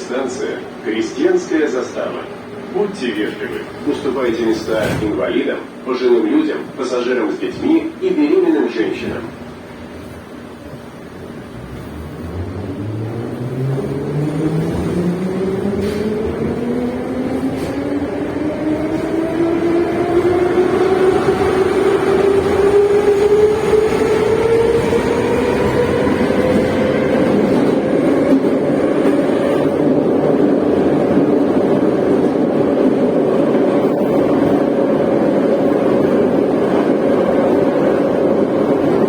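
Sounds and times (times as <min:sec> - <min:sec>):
train running noise: 0:00.0 - 0:39.0.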